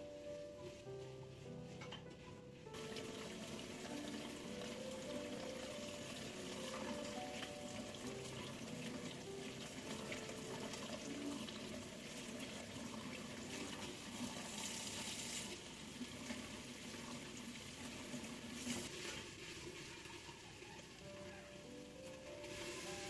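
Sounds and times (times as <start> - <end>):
tap water running into sink: 2.7 - 23.0.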